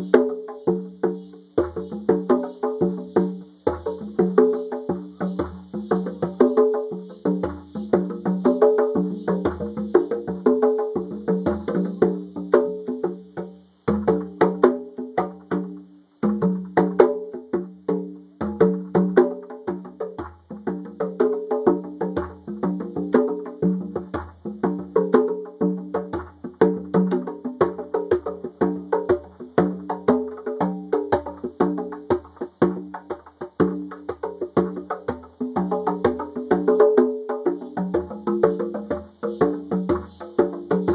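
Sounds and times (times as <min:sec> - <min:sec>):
cicadas buzzing: 0:00.0 - 0:40.9
conga drums played by hand: 0:00.0 - 0:40.9.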